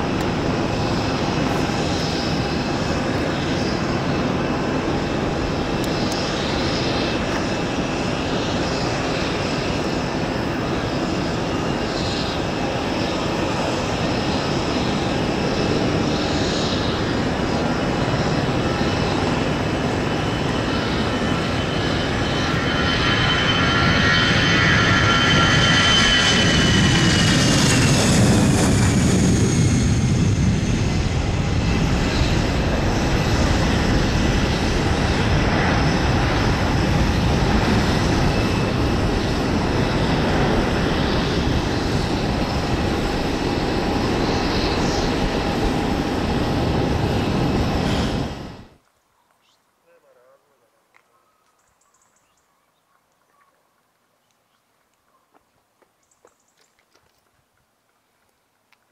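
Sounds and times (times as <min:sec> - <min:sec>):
jet engines at takeoff thrust: 0:00.0 - 0:48.8.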